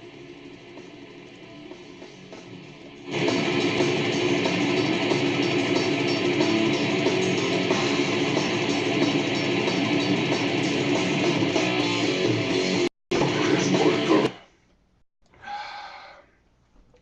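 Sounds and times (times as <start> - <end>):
death metal distorted guitars: 0.0 - 14.4.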